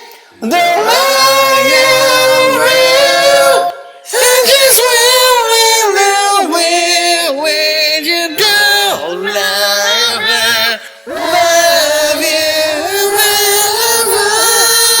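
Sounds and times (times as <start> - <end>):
voices singing a chant: 0.0 - 15.0.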